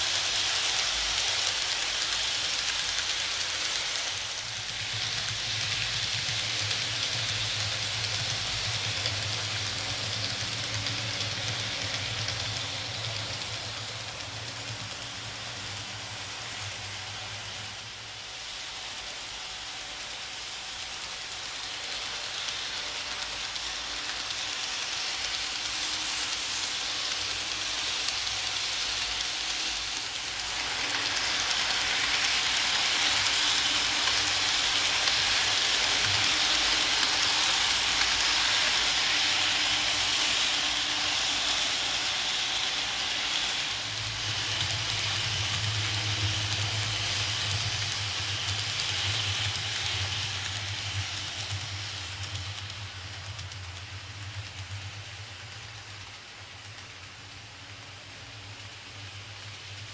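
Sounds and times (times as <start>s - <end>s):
model train wheels rolling: 0.0s - 59.9s.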